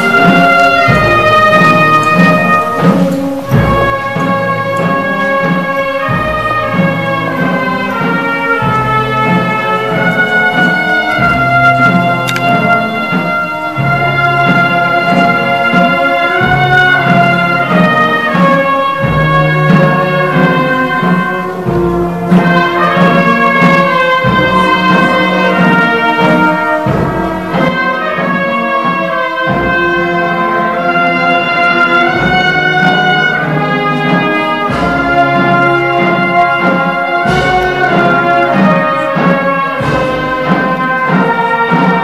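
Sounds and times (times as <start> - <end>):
brass band playing march: 0.0 - 42.0
low drum beat: 0.0 - 42.0.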